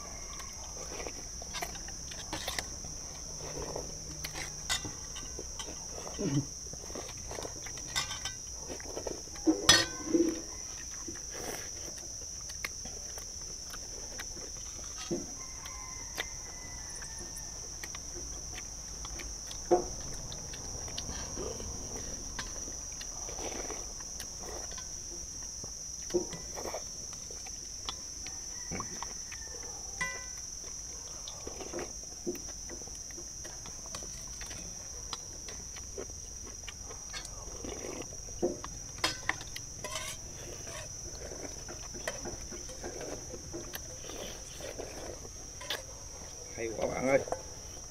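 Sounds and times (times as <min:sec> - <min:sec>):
slurping and chewing noodles: 0:00.0 - 0:47.9.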